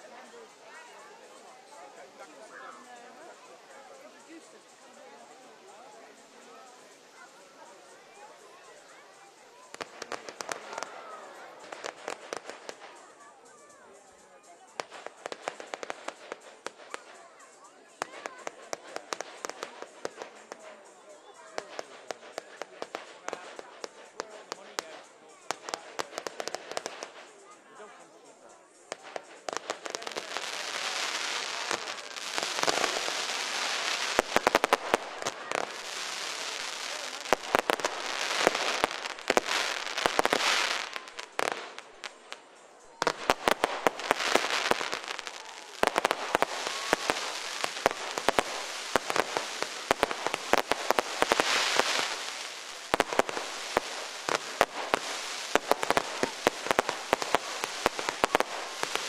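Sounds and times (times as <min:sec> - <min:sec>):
fireworks crackling and popping: 0:00.0 - 0:59.0.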